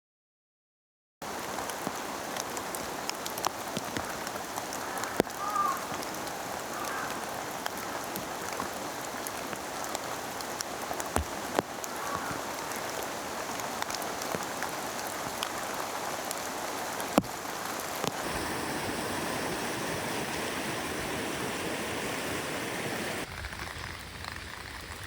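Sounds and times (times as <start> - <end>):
steady rain pattering: 1.2 - 25.0.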